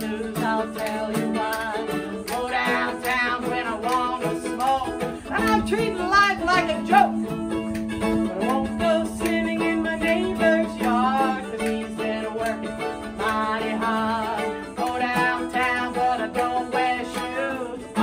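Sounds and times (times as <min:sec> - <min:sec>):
woman singing: 0:00.0 - 0:07.4, 0:08.2 - 0:18.0
strummed mandolin: 0:00.0 - 0:18.0
ukulele strumming: 0:00.0 - 0:18.0.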